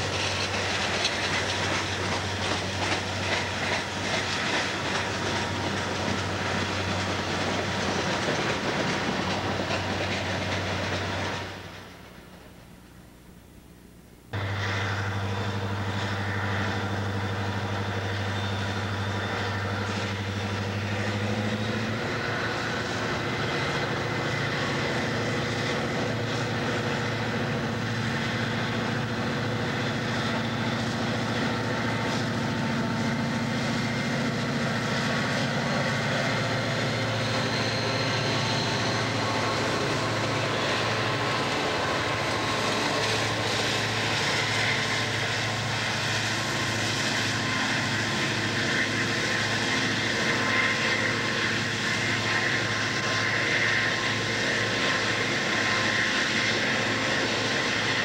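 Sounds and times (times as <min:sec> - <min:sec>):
diesel locomotive engines droning: 0:00.0 - 0:58.0.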